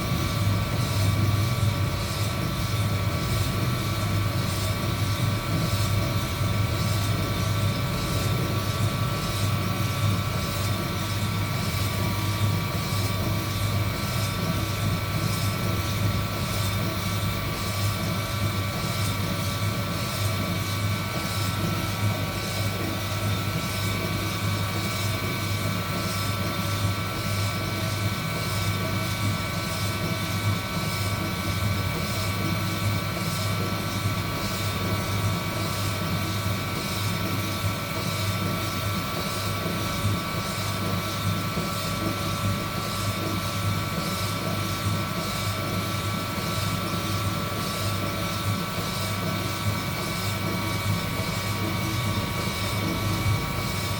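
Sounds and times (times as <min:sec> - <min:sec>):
heat gun humming with whine: 0:00.0 - 0:53.9.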